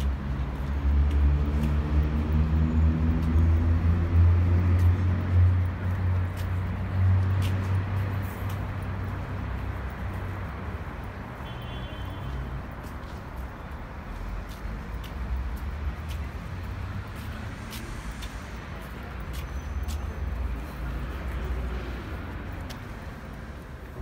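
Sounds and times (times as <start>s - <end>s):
faint footsteps on pavement: 0.0s - 24.0s
low traffic rumble: 0.0s - 24.0s.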